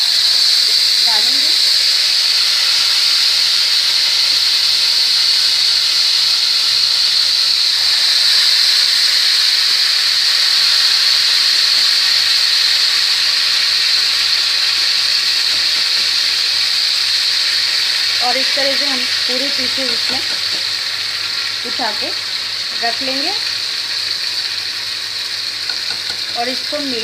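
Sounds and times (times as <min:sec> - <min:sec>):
chicken sizzling in hot oil: 0:00.0 - 0:27.0.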